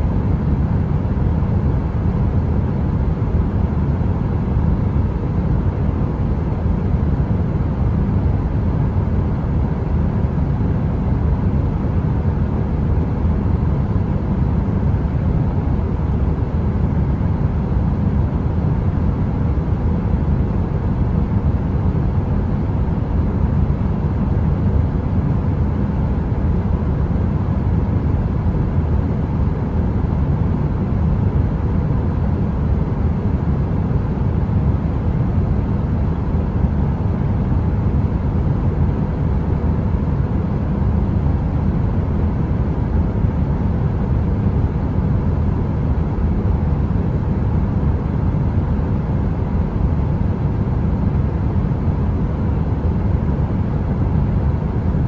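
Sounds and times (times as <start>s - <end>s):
faint steady hum: 0.0s - 55.0s
heater white noise: 0.0s - 55.0s.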